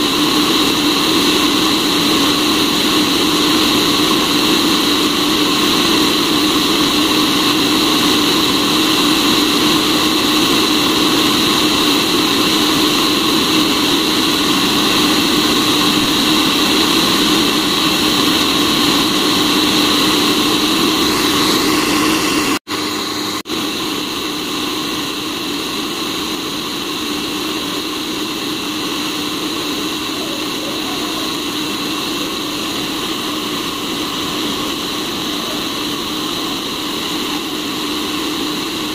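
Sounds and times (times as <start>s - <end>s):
coffee roaster fan whirring: 0.0s - 38.9s.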